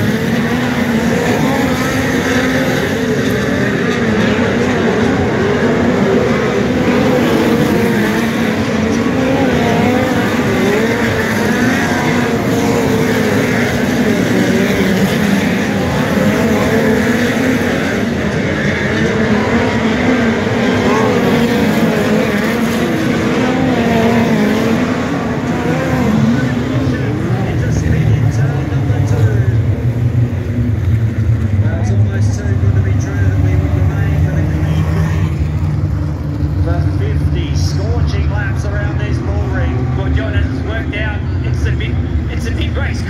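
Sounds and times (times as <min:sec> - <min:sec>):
race car engines: 0:00.0 - 0:43.0.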